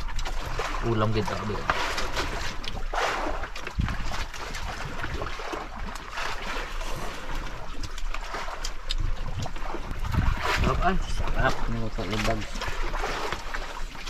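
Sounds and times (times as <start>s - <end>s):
water sloshing against hull: 0.0s - 14.0s.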